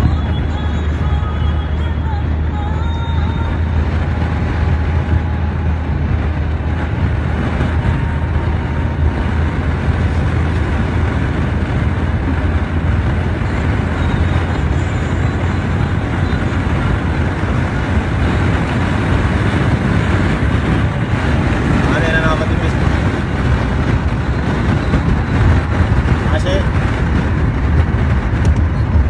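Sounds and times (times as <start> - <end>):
car driving with road noise: 0.0 - 29.0.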